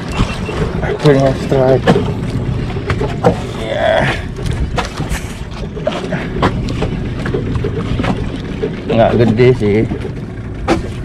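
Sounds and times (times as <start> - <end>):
wind and sea rumble: 0.0 - 11.0
knocks and slaps against boat: 0.1 - 11.0.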